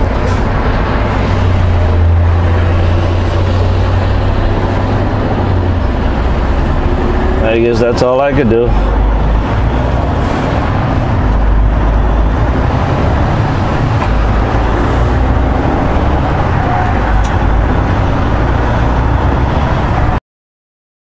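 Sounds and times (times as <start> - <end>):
diesel truck engine drone: 0.0 - 20.2
road noise: 0.0 - 20.2.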